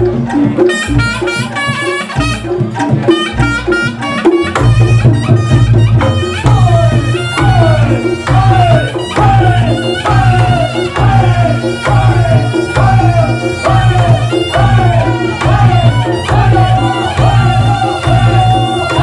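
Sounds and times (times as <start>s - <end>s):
kendang drums beating fast: 0.0s - 19.0s
reedy wind instrument melody: 0.0s - 19.0s.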